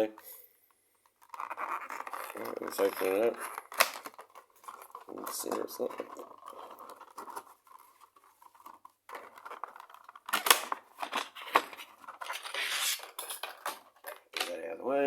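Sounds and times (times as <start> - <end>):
plastic packaging crackling: 1.1 - 14.4.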